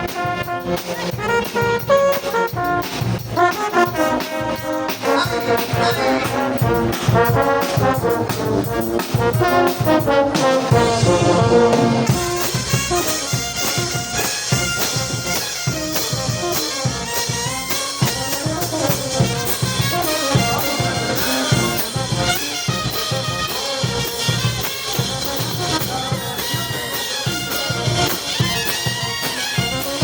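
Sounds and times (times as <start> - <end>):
brass band playing dance tune: 0.0 - 30.0.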